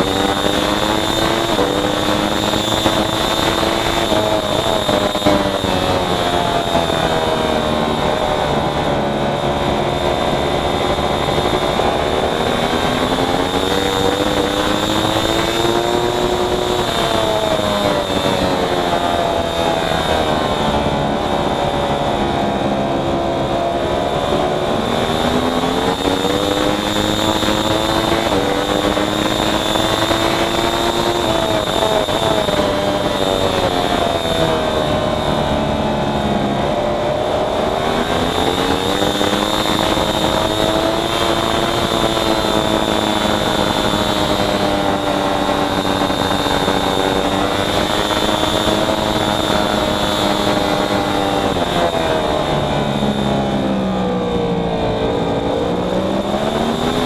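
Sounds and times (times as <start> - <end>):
racing motorcycle engine: 0.0 - 57.0
steady rushing noise: 0.0 - 57.0.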